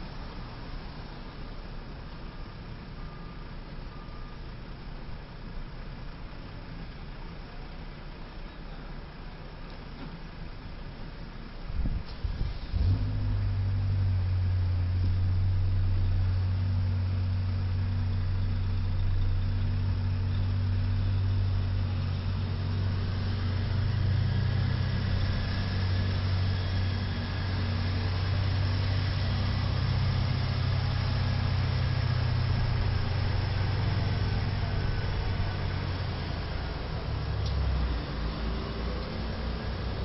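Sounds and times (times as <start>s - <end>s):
road traffic noise: 0.0s - 40.0s
truck engine drone: 0.0s - 40.0s.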